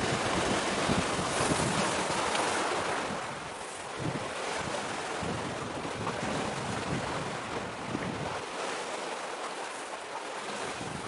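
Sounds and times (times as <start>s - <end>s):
wind buffeting microphone: 0.0s - 8.6s, 10.4s - 11.0s
surf rushing: 0.0s - 11.0s.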